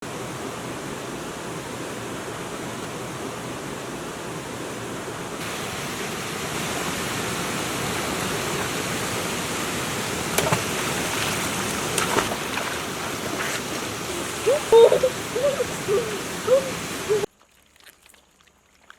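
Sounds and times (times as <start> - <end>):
flowing water rushing: 0.0 - 17.3.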